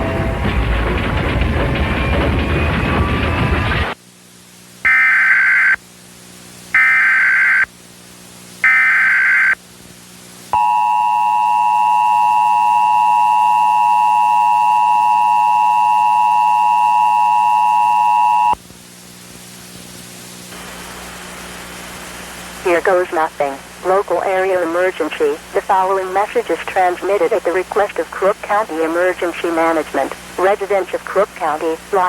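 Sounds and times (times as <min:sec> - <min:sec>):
faint steady hum: 0:03.9 - 0:32.0.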